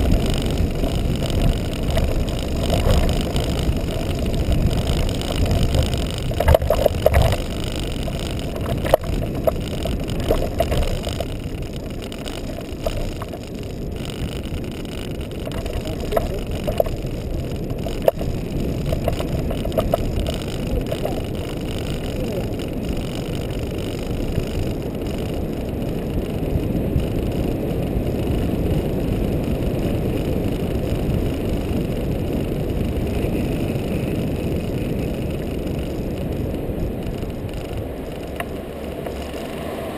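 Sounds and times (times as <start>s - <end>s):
wind and rolling noise: 0.0s - 39.9s.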